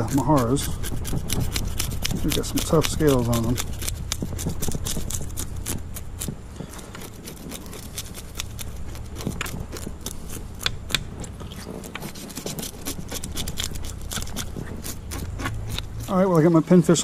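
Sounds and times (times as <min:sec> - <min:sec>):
spoon scraping fish scales: 0:00.0 - 0:16.6.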